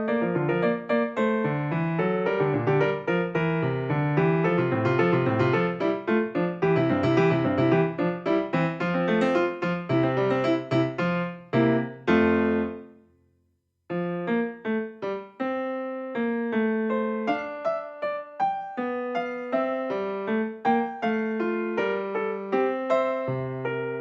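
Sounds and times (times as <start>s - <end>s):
piano music: 0.0s - 13.0s, 13.9s - 24.0s.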